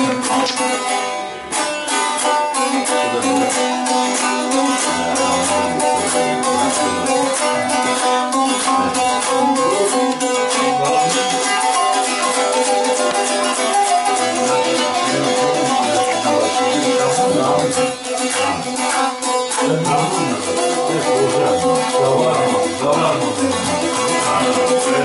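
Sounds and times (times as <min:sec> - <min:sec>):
lute strummed rapidly: 0:00.0 - 0:25.0.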